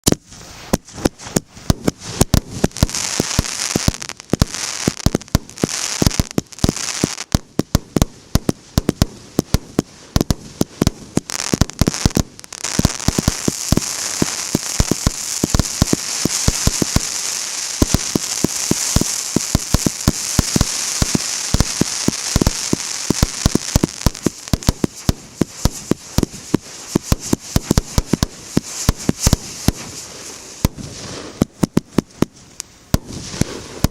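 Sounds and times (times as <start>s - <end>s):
firework bangs: 0.0s - 33.9s
firework crackle: 0.0s - 33.9s.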